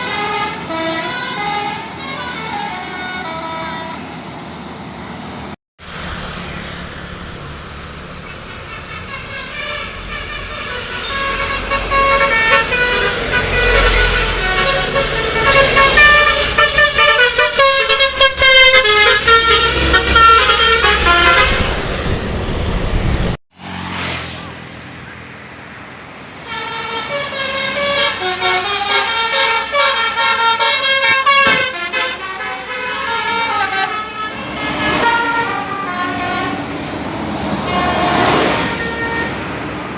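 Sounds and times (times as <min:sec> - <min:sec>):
multi-tone bus horns playing tunes: 0:00.0 - 0:04.2, 0:06.0 - 0:23.3, 0:26.4 - 0:39.9.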